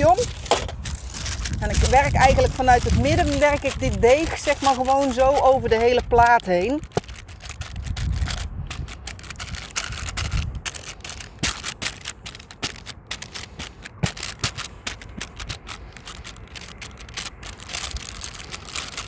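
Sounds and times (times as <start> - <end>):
baking paper crinkling: 0.0 - 19.0.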